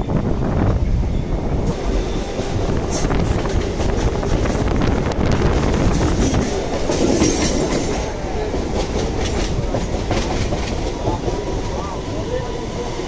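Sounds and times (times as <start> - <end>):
train rumbling: 0.0 - 13.0
wheels clickety-clack over rail joints: 1.6 - 13.0.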